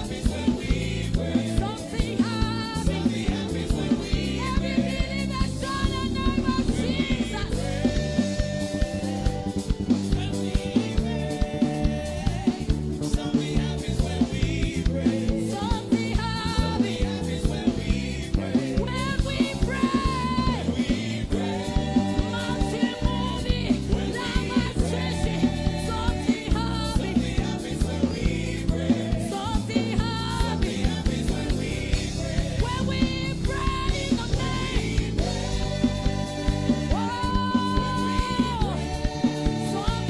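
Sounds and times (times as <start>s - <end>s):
band with steady drum beat: 0.0s - 40.0s
women singing into microphones: 0.0s - 40.0s.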